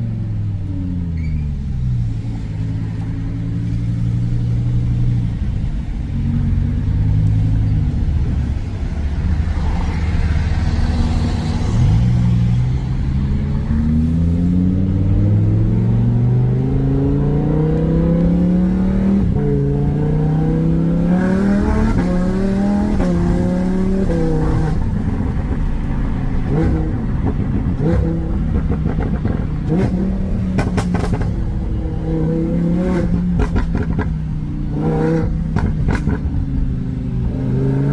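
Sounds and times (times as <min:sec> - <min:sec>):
car engine revving: 0:02.1 - 0:37.9.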